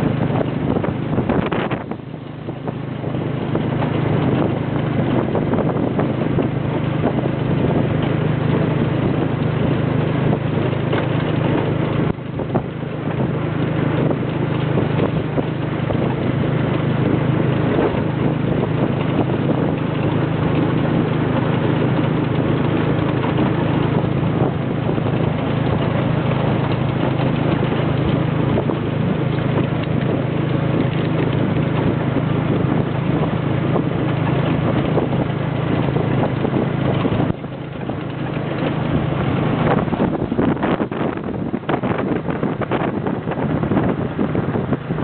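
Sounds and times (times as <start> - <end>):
engine running steadily: 0.0 - 45.0
wind rushing over microphone: 0.0 - 45.0.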